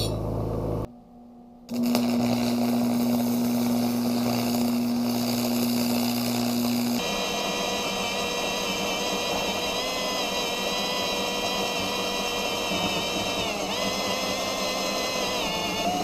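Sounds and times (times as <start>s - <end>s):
power drill boring into steel: 1.7s - 16.0s.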